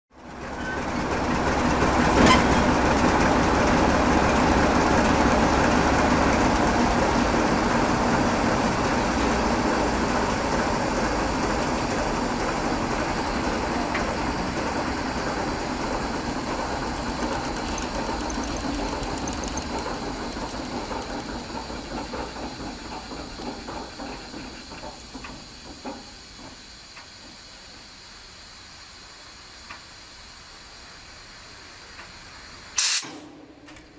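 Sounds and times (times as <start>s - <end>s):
diesel locomotive engine winding down: 0.2s - 33.9s.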